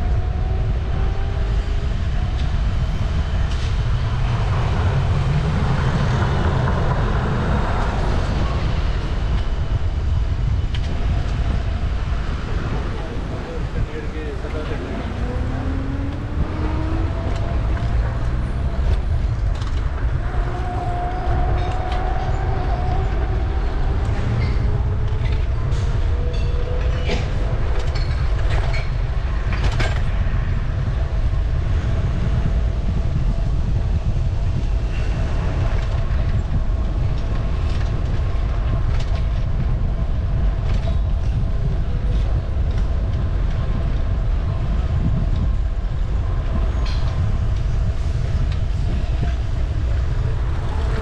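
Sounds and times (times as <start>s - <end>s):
passing traffic: 0.0s - 51.0s
wind and road noise rumble: 0.0s - 51.0s.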